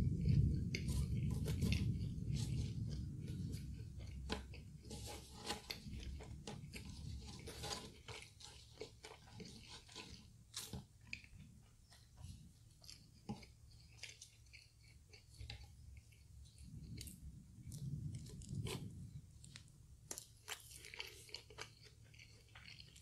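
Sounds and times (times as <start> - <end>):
person chewing crispy food: 0.0 - 23.0.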